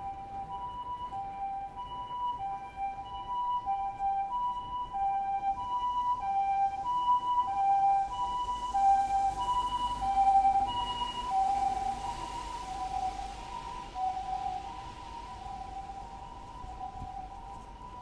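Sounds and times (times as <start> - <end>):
street traffic rumble: 0.0 - 18.0
two-tone ambulance siren: 0.0 - 18.0.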